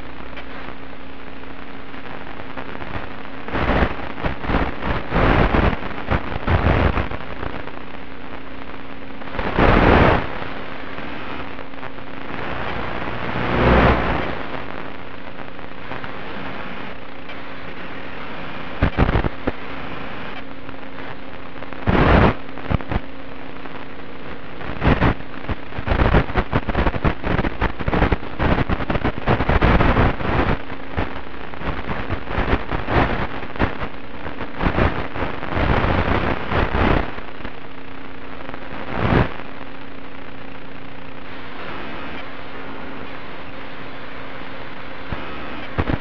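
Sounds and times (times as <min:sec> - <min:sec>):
crackling interference bursts: 0:00.0 - 0:46.0
faint steady hum: 0:00.0 - 0:46.0
static hiss: 0:00.0 - 0:46.0.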